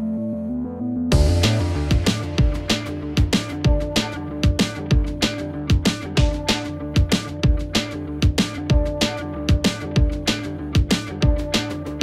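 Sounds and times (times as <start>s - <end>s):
music with steady drum beat: 1.1s - 12.0s.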